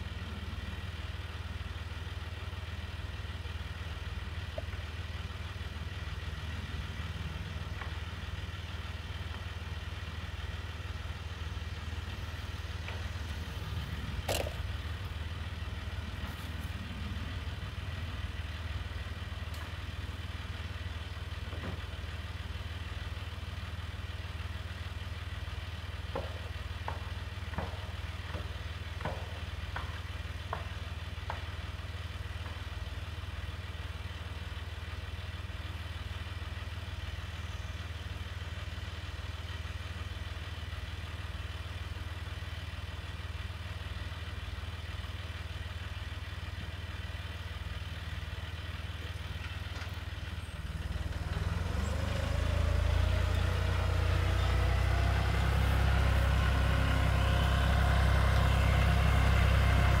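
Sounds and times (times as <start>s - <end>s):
tractor engine idling and revving: 0.0s - 60.0s.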